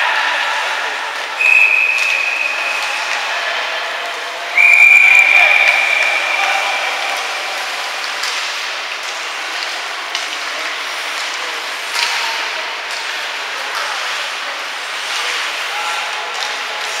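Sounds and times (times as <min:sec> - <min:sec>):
ice rink hall noise: 0:00.0 - 0:17.0.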